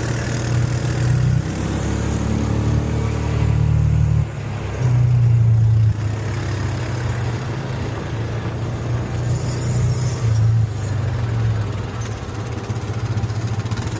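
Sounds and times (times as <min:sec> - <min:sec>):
buggy engine droning: 0:00.0 - 0:13.9.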